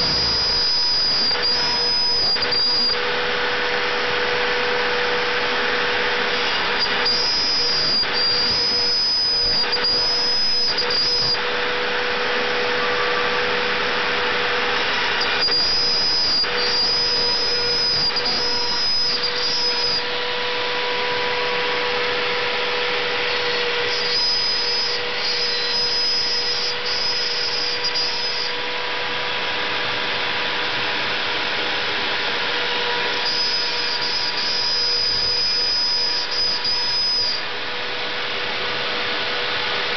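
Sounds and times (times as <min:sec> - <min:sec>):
high whine: 0:00.0 - 0:39.9
router spindle milling wood: 0:00.0 - 0:39.9.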